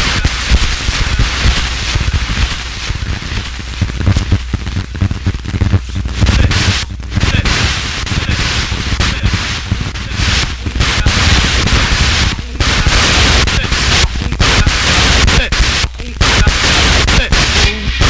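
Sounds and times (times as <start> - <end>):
crackling static and popping: 0.0 - 18.0
heavy low rumble: 0.0 - 18.0.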